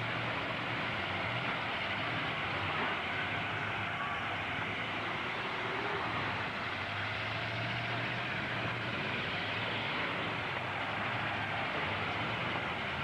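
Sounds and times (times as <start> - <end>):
low engine hum: 0.0 - 13.0
truck engines running: 0.0 - 13.0.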